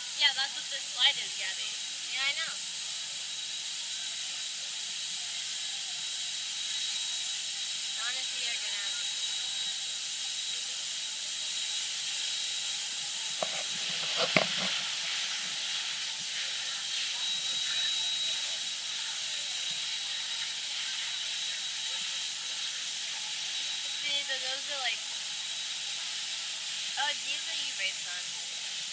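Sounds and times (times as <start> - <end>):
high-pitched hiss: 0.0 - 28.9.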